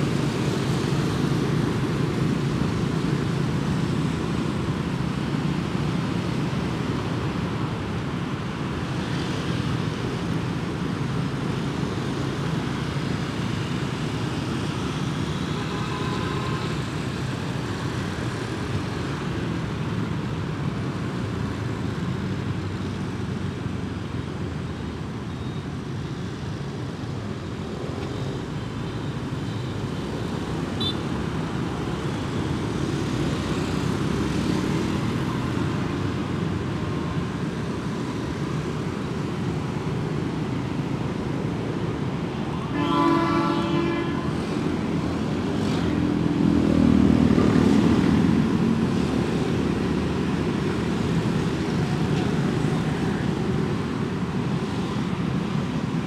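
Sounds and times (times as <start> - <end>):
motorbike engines and tyres: 0.0 - 56.0.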